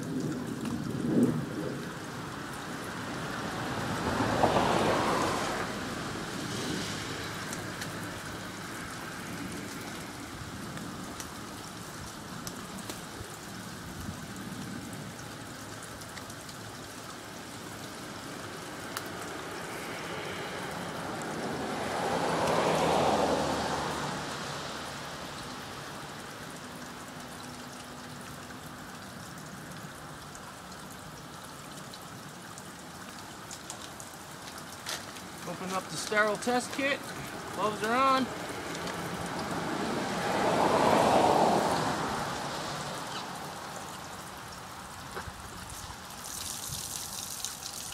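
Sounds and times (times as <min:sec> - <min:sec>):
water pouring from a pipe: 0:00.0 - 0:47.9
water splashing: 0:02.0 - 0:13.4, 0:15.2 - 0:47.9.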